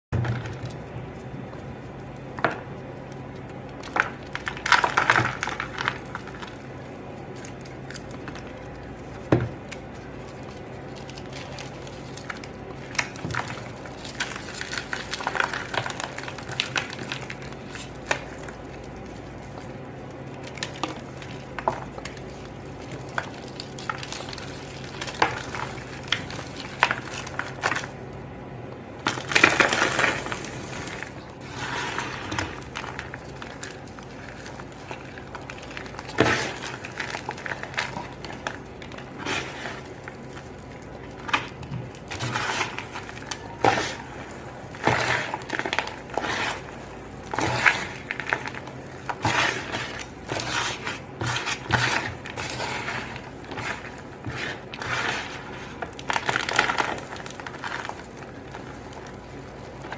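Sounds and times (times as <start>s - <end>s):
cornstarch crunching and crumbling: 0.2s - 59.9s.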